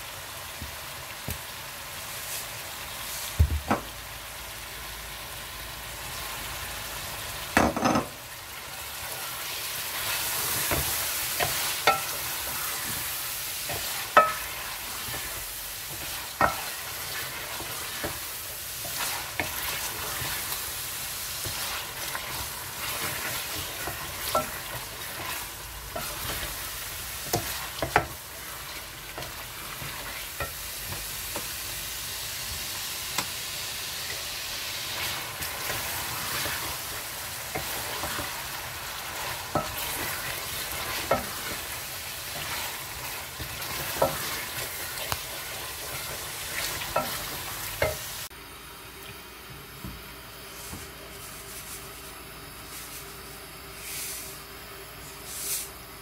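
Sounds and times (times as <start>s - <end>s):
meat sizzling in a pot: 0.0s - 56.0s.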